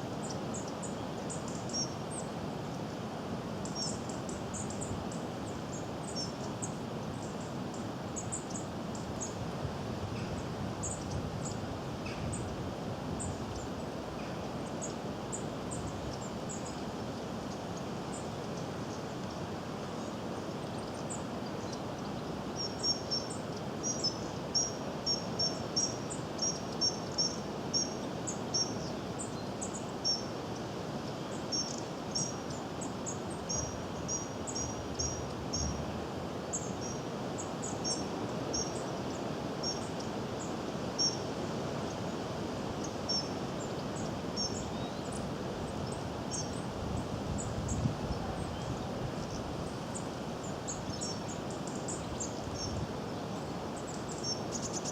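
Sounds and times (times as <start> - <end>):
background hiss: 0.0 - 54.9.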